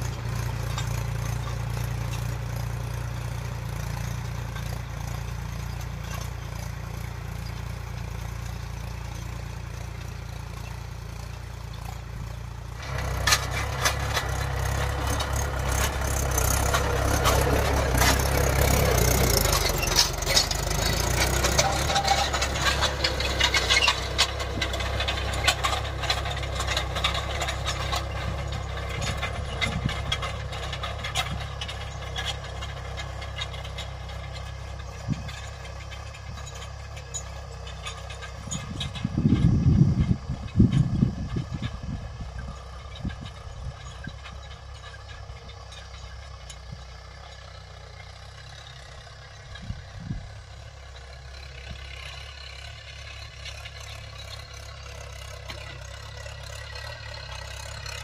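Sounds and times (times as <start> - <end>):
rattling and clatter: 0.0 - 58.0
tractor diesel engine running: 0.0 - 58.0.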